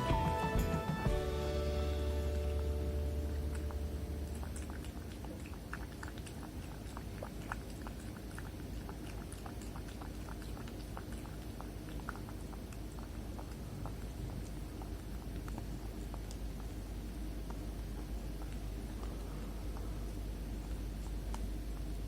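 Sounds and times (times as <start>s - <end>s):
kitten lapping milk: 1.7s - 22.0s.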